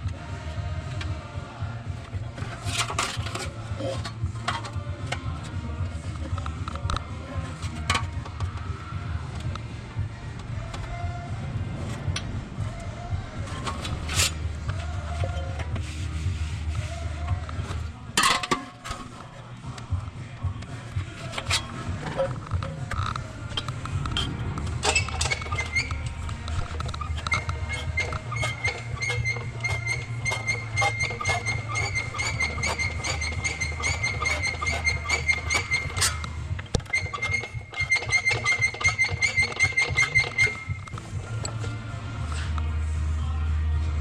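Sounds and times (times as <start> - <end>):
background music with pulse: 0.0 - 44.0.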